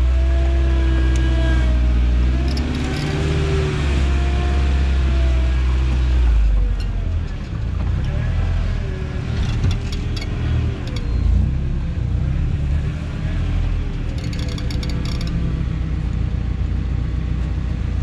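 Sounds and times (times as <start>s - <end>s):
truck engine running: 2.0s - 18.0s.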